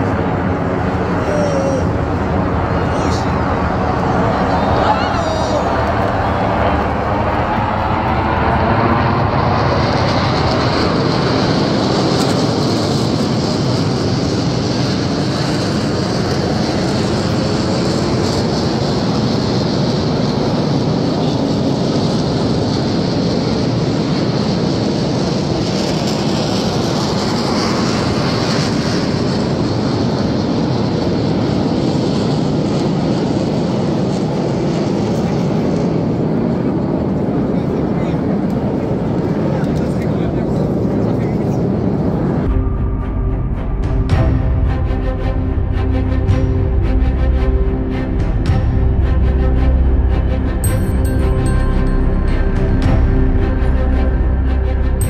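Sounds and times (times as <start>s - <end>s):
jet aircraft flying over: 0.0s - 55.0s.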